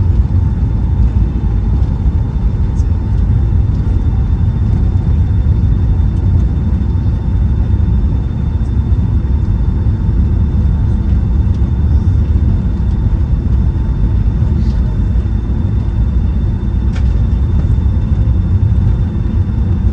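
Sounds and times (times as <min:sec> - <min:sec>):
aircraft cabin rumble: 0:00.0 - 0:19.9
faint steady whine: 0:00.0 - 0:19.9.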